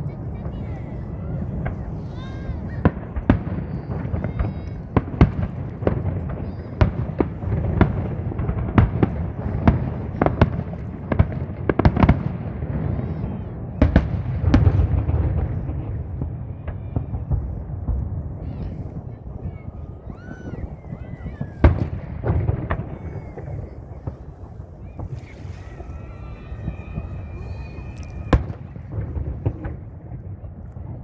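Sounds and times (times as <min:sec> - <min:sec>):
fireworks bursting: 0:00.0 - 0:31.0
low rumble of fireworks: 0:00.0 - 0:31.0.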